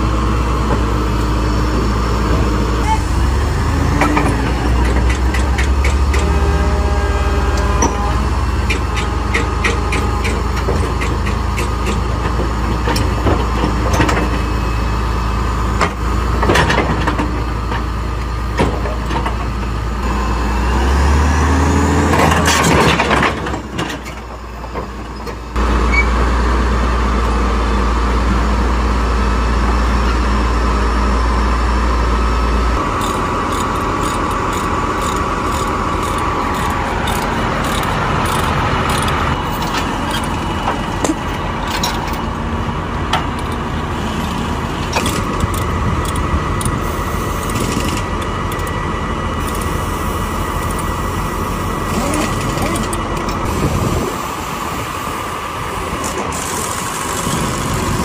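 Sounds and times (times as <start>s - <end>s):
steel tracks clanking: 0.0s - 20.5s, 22.0s - 26.4s, 32.6s - 58.0s
bulldozer diesel engine: 0.0s - 58.0s.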